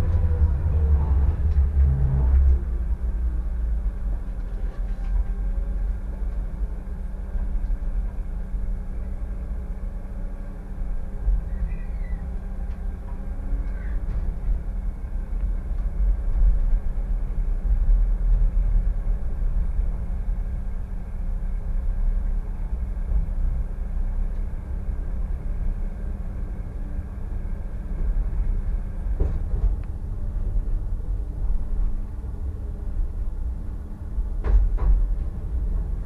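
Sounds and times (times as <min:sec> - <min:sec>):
tram wheels rumbling on rail: 0:00.0 - 0:36.0.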